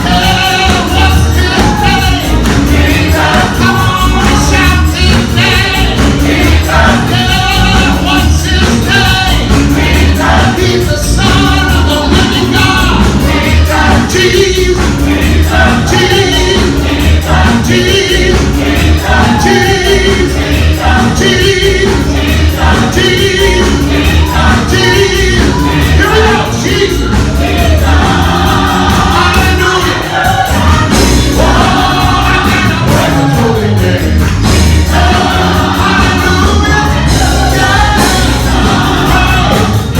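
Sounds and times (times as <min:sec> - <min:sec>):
gospel choir singing over a beat: 0:00.0 - 0:39.9.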